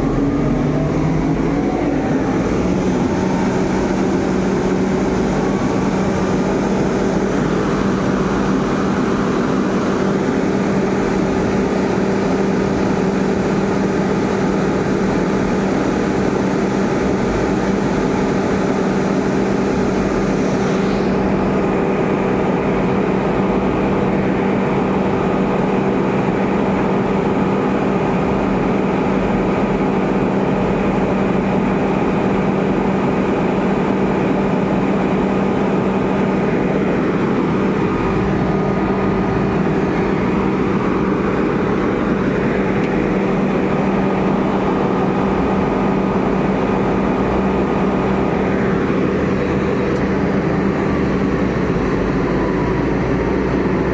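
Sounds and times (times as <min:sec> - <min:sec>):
diesel machine hum: 0:00.0 - 0:53.9.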